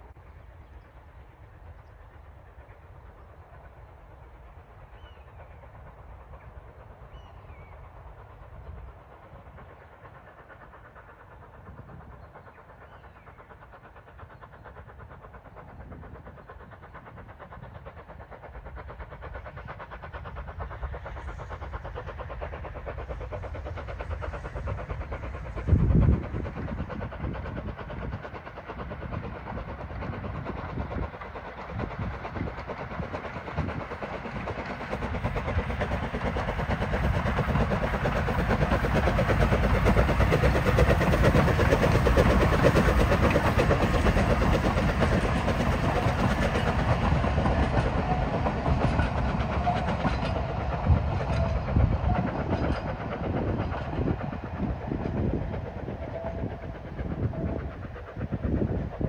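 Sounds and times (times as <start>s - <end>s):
steam locomotive passing: 0.0s - 59.0s.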